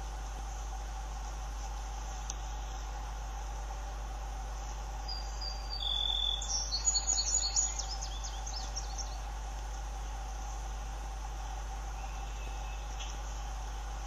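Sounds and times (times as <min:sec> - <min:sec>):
electrical hum and hiss: 0:00.0 - 0:14.0
songbird singing: 0:00.0 - 0:14.0.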